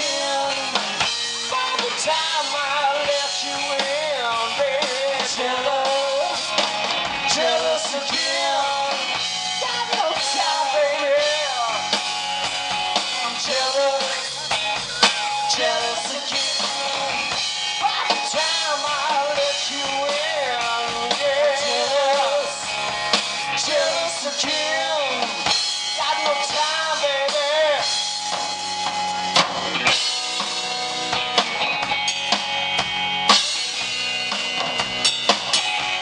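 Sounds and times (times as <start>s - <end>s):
bass guitar: 0.0s - 36.0s
drum kit with cymbals: 0.0s - 36.0s
electric guitar: 0.0s - 36.0s.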